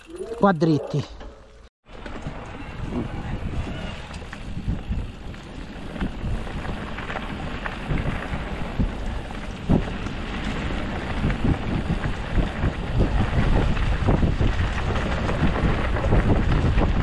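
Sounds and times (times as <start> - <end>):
wind rumbling on microphone: 2.0 - 17.0.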